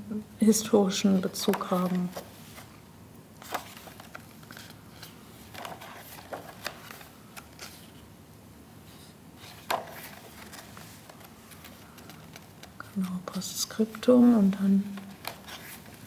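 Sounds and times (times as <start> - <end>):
book pages turning: 1.1 - 2.8, 3.4 - 8.1, 8.9 - 16.0.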